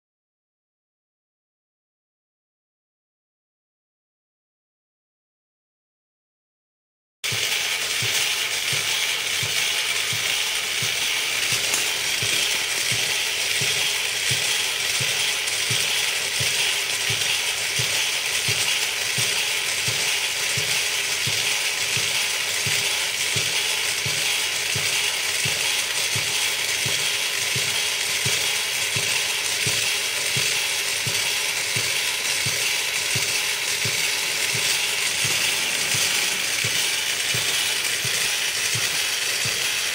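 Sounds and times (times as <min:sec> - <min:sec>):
cams ticking: 0:07.3 - 0:39.9
small electric motor whirring: 0:07.3 - 0:39.9.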